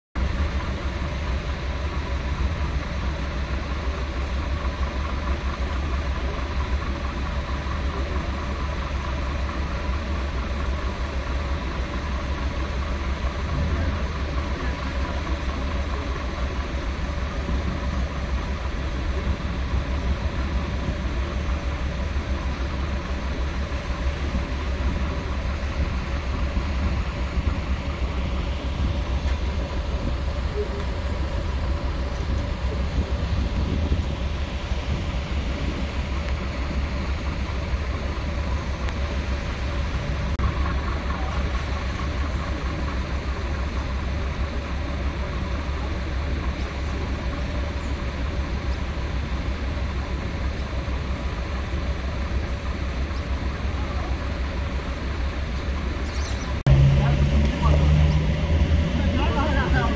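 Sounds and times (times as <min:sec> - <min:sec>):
diesel engine idling: 0:00.2 - 0:59.9.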